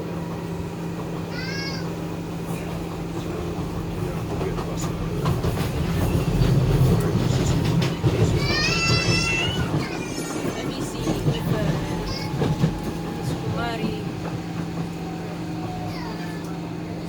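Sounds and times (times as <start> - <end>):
train low hum: 0.0 - 17.0.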